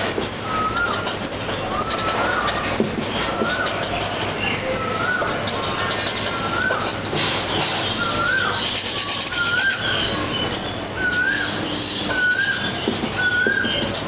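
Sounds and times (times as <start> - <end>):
pencil shading on paper: 0.0 - 9.9, 11.1 - 14.0
bird chirping: 0.4 - 14.0.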